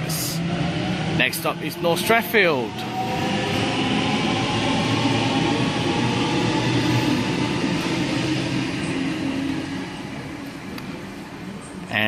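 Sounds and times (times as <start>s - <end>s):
electric train pulling away: 0.0s - 11.8s.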